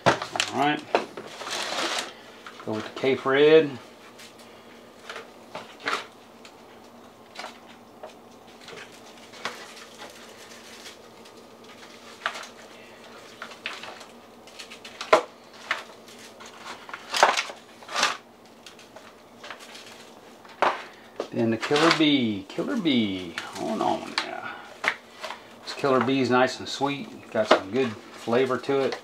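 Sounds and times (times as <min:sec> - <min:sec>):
foil pan crinkling: 0:00.0 - 0:03.2, 0:07.3 - 0:29.0.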